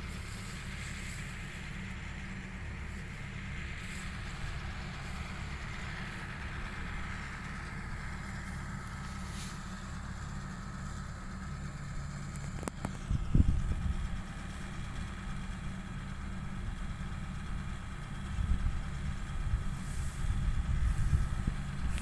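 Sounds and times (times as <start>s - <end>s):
distant harvester engine rumbling: 0.0s - 22.0s.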